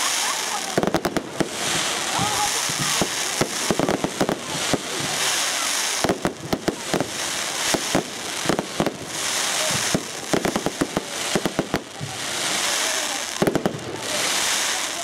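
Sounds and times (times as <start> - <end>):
fireworks crackling pops: 0.0 - 15.0
fireworks hiss: 0.0 - 15.0.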